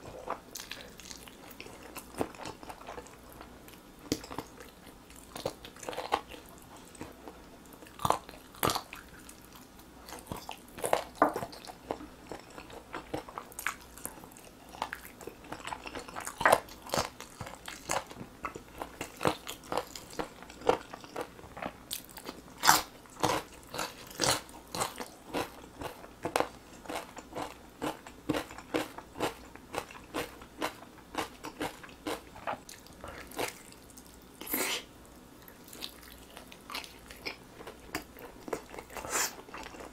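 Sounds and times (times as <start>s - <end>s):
chewing chicken: 0.0s - 39.9s.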